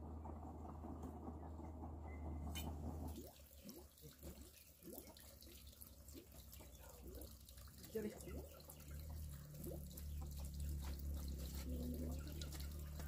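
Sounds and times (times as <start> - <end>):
water dripping: 2.5 - 13.0.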